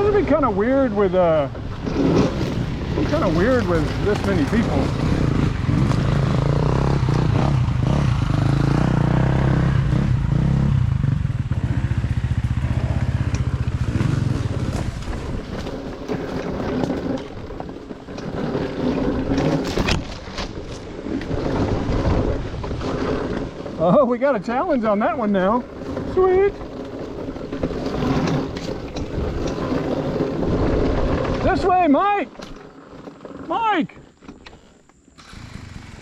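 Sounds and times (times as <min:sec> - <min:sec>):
knocks and scrapes on trail: 0:00.0 - 0:09.0, 0:11.4 - 0:36.0
dirt bike engine running: 0:00.0 - 0:34.0, 0:34.7 - 0:36.0.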